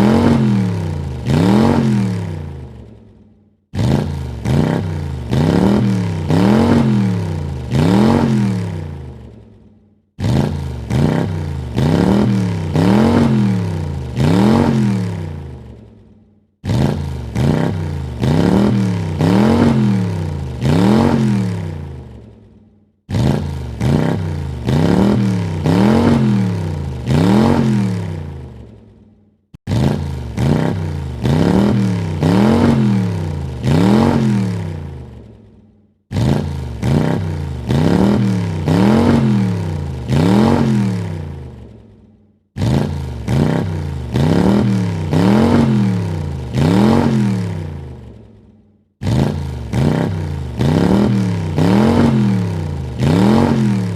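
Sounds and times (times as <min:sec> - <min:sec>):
car engine revving: 0:00.0 - 0:03.0, 0:03.7 - 0:09.4, 0:10.2 - 0:16.0, 0:16.6 - 0:22.4, 0:23.1 - 0:28.8, 0:29.6 - 0:35.3, 0:36.1 - 0:41.8, 0:42.6 - 0:48.3, 0:49.0 - 0:53.9.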